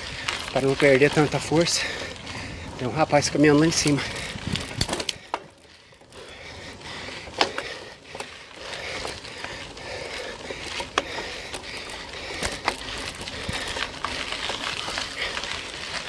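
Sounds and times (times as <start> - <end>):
bike clicks and knocks: 0.0 - 16.0
bike tyres crunching on gravel: 0.0 - 16.0.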